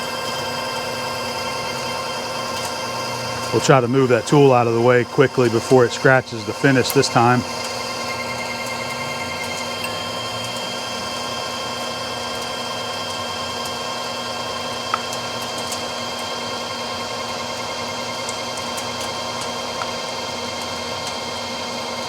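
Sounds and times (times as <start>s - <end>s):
metal lathe whining: 0.0s - 22.0s.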